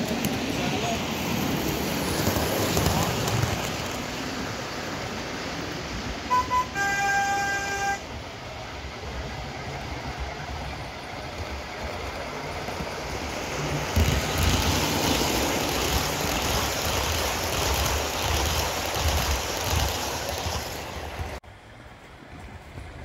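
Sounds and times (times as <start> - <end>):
model train wheels rumbling on rails: 0.0 - 21.4.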